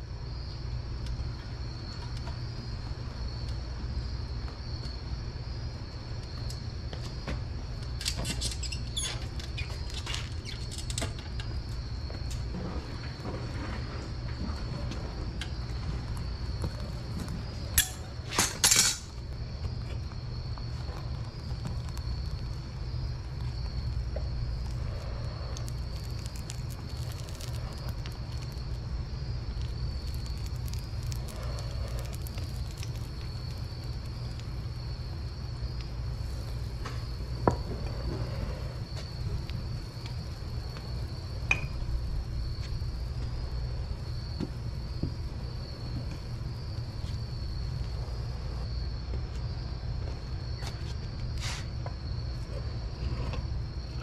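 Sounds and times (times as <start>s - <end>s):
crickets trilling: 0.0s - 54.0s
gas burner low rumble: 0.0s - 54.0s.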